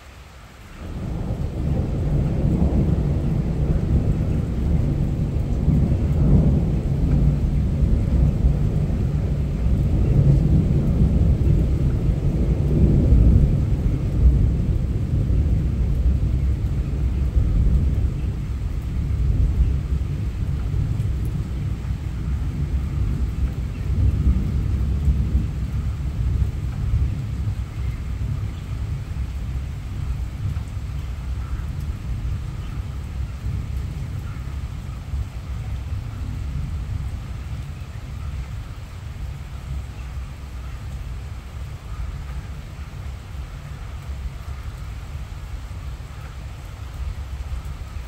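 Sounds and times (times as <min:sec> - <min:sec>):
steady rain: 0:00.0 - 0:48.0
thunder rumbling: 0:00.8 - 0:48.0.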